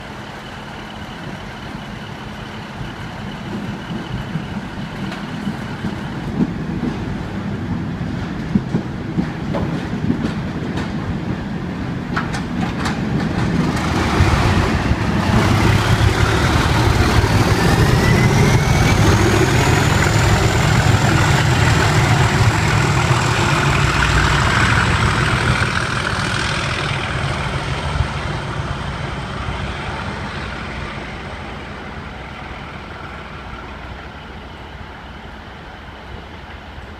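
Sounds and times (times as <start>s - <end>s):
diesel locomotive engine passing: 0.0s - 36.9s.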